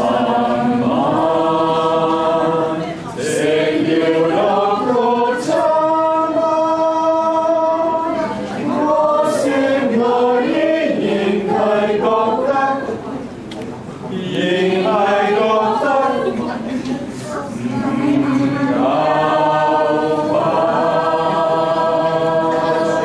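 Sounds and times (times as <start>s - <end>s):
mixed choir singing: 0.0s - 13.4s, 14.0s - 23.0s.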